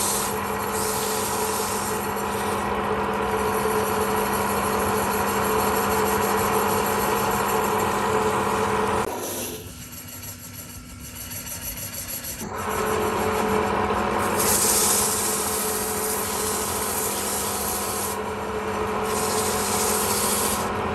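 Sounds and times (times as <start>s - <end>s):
tool cutting spinning wood: 0.0s - 20.9s
wood lathe motor hum: 0.0s - 20.9s.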